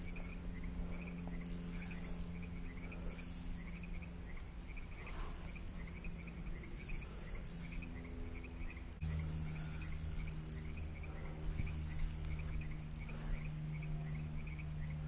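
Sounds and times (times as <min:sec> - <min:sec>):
insects chirping trills: 0:00.0 - 0:15.0
steady low hum: 0:00.0 - 0:15.0.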